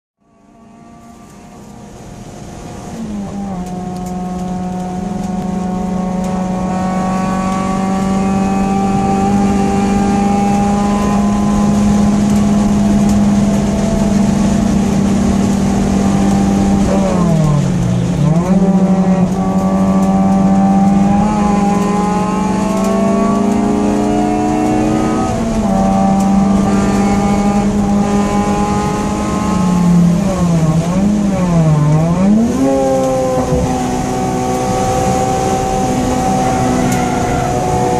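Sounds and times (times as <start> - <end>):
car engine at high revs: 0.2 - 37.9.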